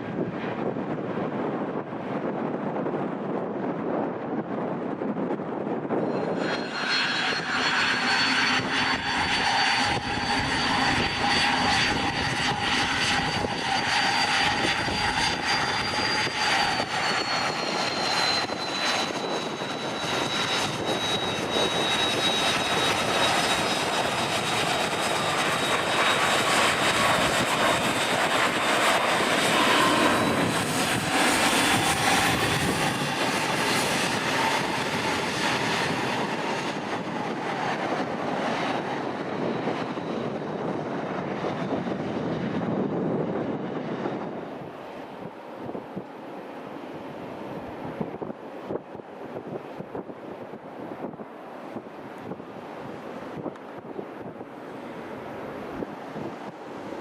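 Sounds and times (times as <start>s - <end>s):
jet engines whining: 5.0s - 57.0s.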